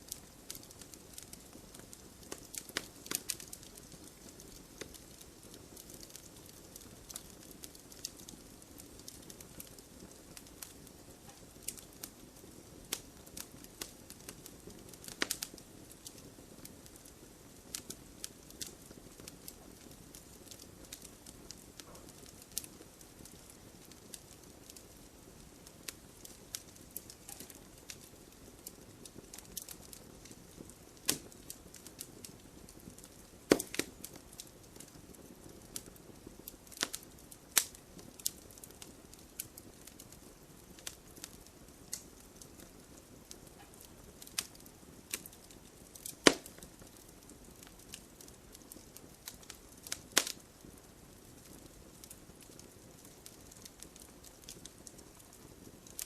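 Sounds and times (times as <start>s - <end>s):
soft fire hiss: 0.0s - 56.0s
wood fire crackling and popping: 0.0s - 56.0s.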